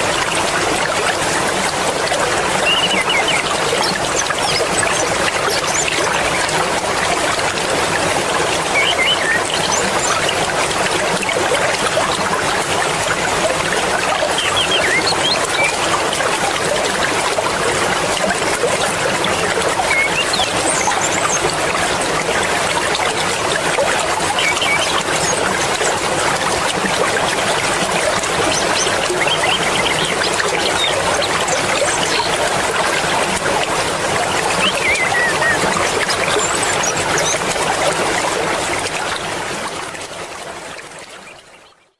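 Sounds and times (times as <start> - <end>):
river water rushing: 0.0 - 40.8.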